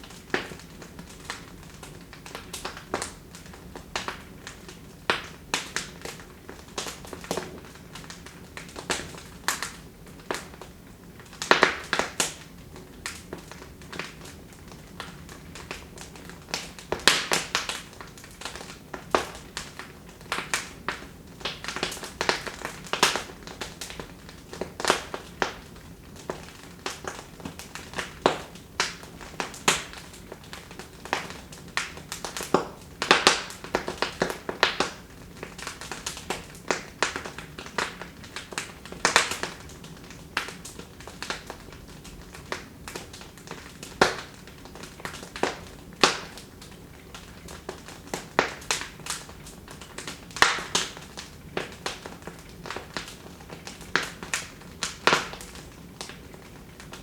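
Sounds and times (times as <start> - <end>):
soft steady hiss: 0.0 - 57.0
wood fire crackling: 0.0 - 57.0.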